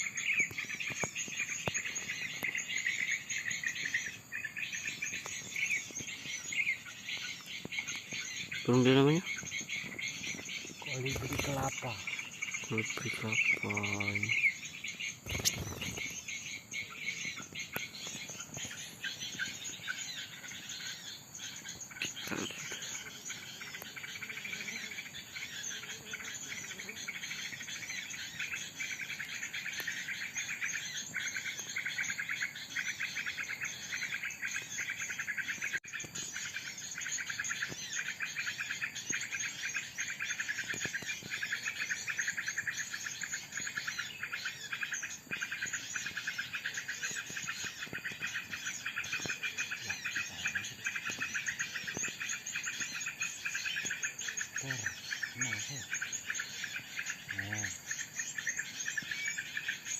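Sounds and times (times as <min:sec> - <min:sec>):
insects: 0:00.0 - 0:59.9
small birds chirping: 0:00.0 - 0:59.9.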